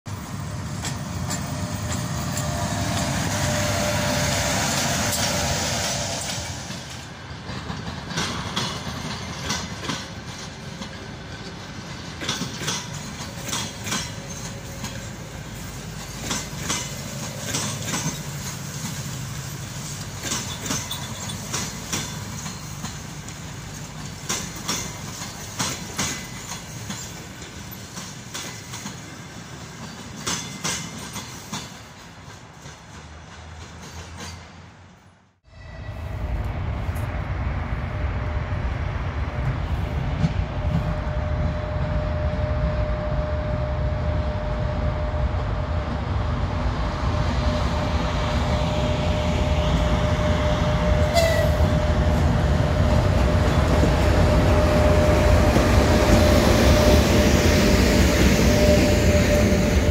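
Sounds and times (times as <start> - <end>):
train wheels clickety-clack: 0.1 - 34.7, 39.3 - 43.4, 47.1 - 59.9
electric locomotive passing: 0.1 - 59.9.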